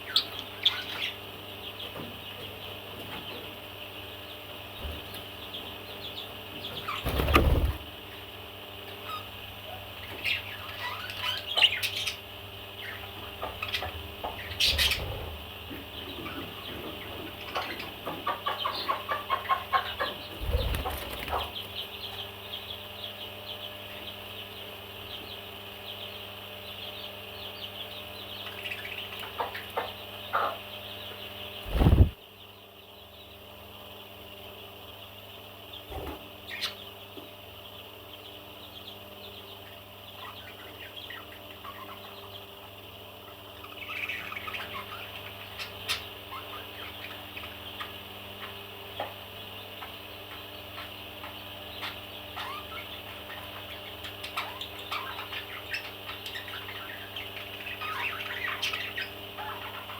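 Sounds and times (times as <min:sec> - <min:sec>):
parrots chirping and chattering: 0:00.0 - 0:32.2, 0:34.2 - 0:59.9.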